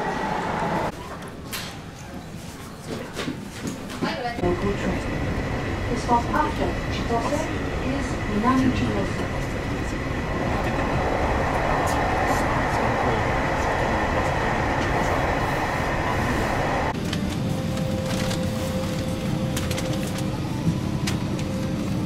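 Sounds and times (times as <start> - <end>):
train rumble inside carriage: 0.0 - 1.0, 2.1 - 22.0.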